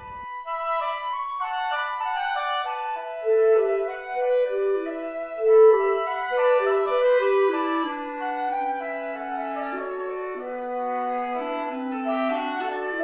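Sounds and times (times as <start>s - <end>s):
gentle woodwind melody: 0.0s - 13.0s.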